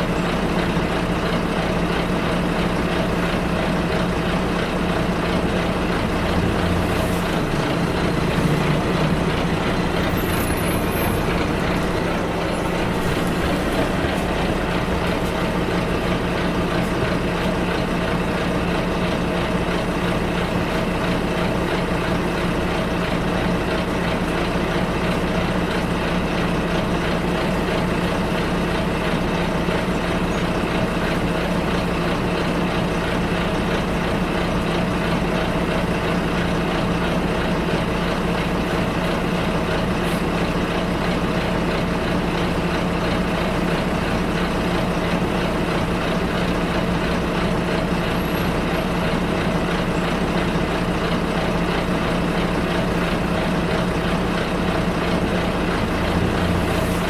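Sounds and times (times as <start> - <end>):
bus engine humming: 0.0 - 57.0
road and rolling noise: 0.0 - 57.0.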